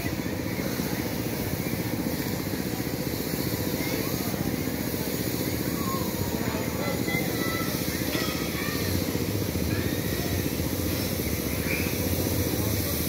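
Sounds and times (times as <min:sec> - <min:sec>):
miniature train engine running: 0:00.0 - 0:13.0.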